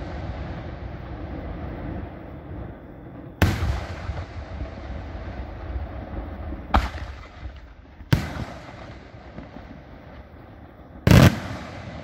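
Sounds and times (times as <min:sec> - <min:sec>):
fireworks booming: 0:00.0 - 0:12.0
low fireworks display rumble: 0:00.0 - 0:12.0.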